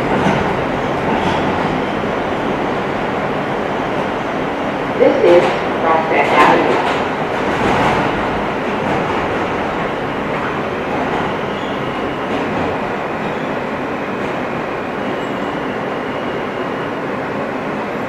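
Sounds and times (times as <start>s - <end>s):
subway car interior noise: 0.0s - 18.0s.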